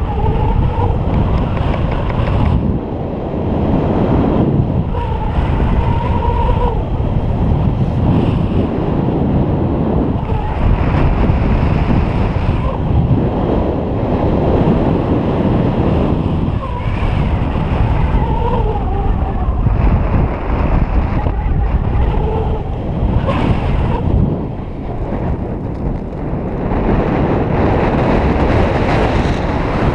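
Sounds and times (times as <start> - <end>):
wind rushing on microphone: 0.0 - 29.9.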